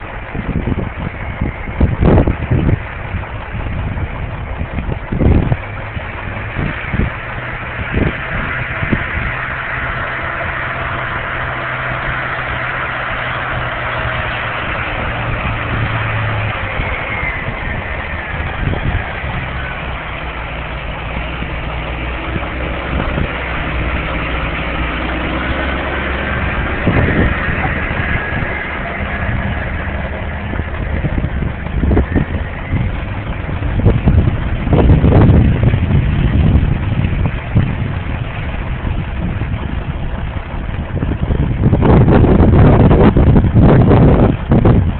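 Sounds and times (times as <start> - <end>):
gusty noise: 0.0 - 44.9
truck engine running: 0.0 - 44.9.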